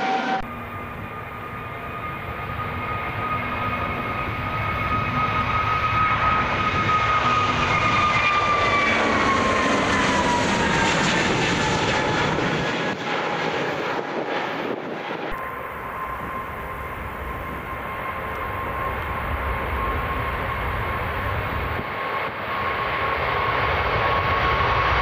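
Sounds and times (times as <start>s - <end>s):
jet airliner taking off: 0.0s - 25.0s
jet engine whine: 0.0s - 25.0s.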